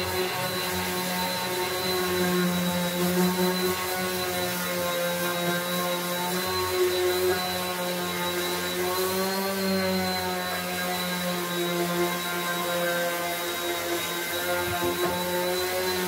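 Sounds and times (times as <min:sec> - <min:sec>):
electric sander sanding wood: 0:00.0 - 0:16.0.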